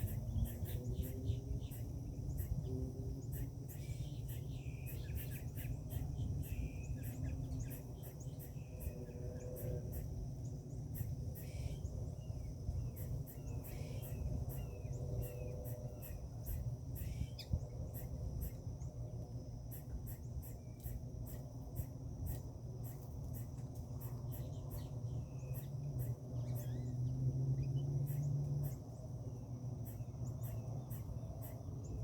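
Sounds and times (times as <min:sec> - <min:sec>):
bird chirps: 0:00.0 - 0:10.1, 0:10.9 - 0:18.6, 0:19.8 - 0:28.8
insects chirring: 0:00.0 - 0:32.0.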